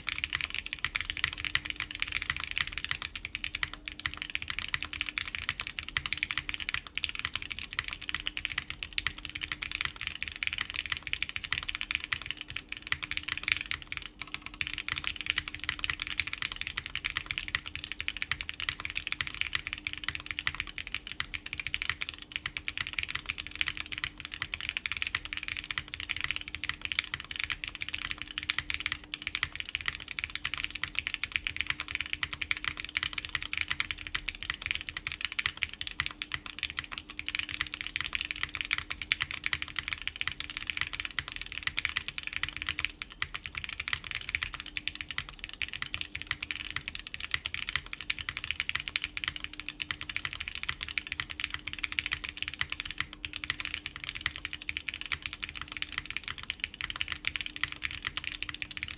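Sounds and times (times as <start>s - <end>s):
mechanical keyboard typing: 0.0s - 58.9s.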